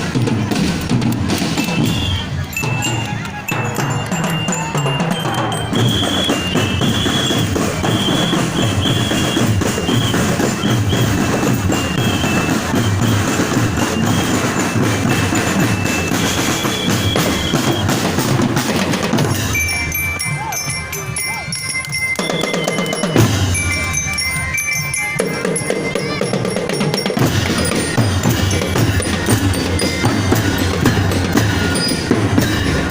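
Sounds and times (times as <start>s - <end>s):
drum-led music: 0.0s - 32.9s
high held tones: 1.4s - 18.4s, 19.1s - 32.9s.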